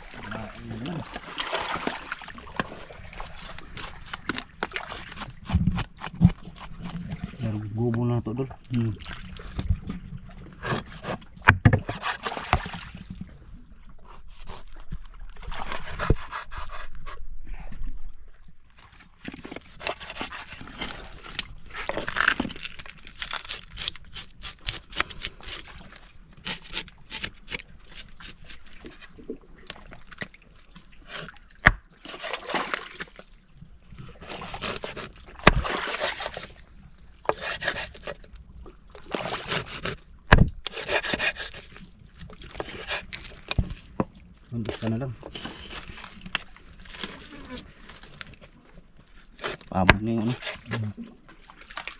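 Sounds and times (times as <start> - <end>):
water splashing and sloshing: 0.0 - 51.9.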